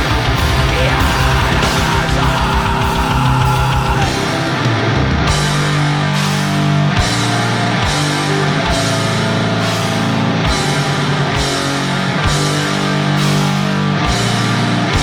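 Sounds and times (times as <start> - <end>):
distorted guitar chords: 0.0 - 15.0.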